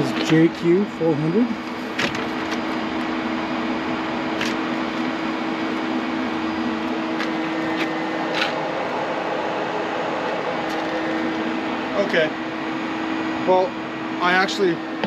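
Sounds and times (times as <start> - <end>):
skid steer engine humming: 0.0 - 15.0.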